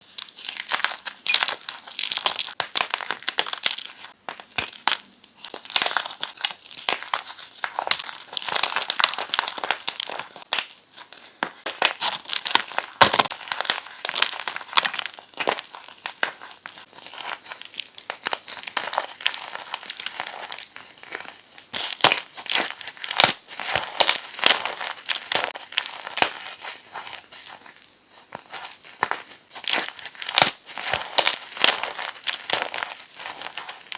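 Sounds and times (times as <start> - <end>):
chalk blocks being crushed: 0.0 - 33.9.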